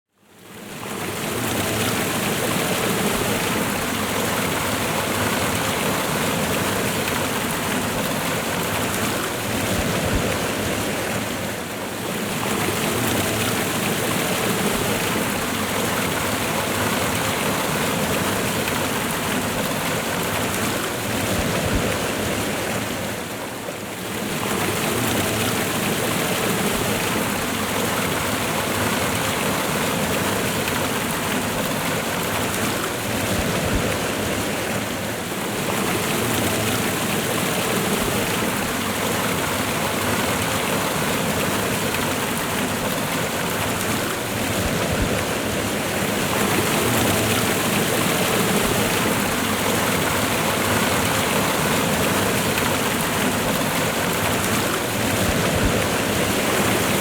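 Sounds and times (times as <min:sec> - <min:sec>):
waterfall and river rushing: 0:00.3 - 0:57.0.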